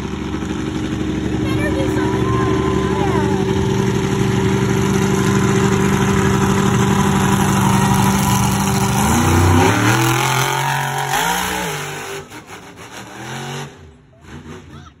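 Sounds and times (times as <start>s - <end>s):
vehicle engine revving: 0.0s - 14.9s.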